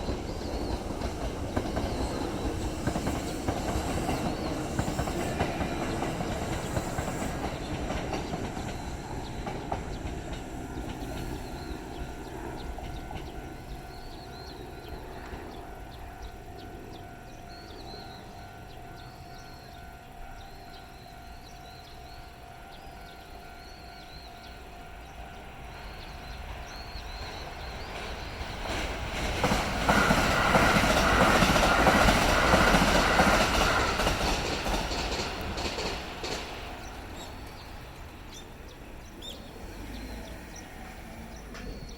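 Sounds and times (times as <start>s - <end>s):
crossing warning bell ringing: 0.0s - 41.9s
train wheels rumbling and clattering: 0.0s - 41.9s.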